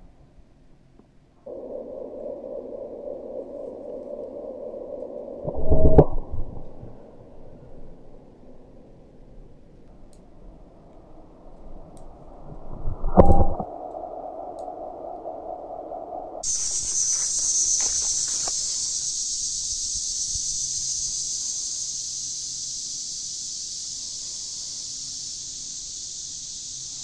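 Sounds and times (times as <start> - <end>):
low drone: 1.4 - 26.8
insects chorus: 1.4 - 27.0.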